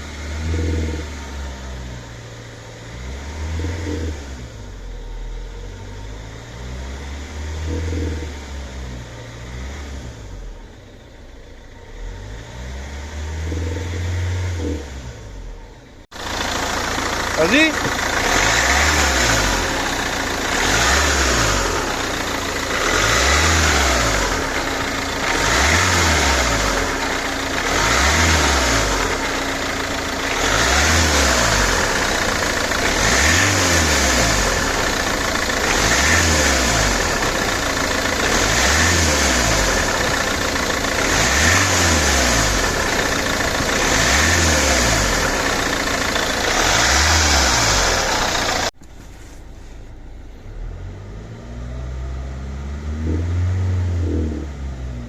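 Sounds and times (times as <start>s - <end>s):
diesel engine revving: 0.0s - 48.9s, 50.4s - 55.0s.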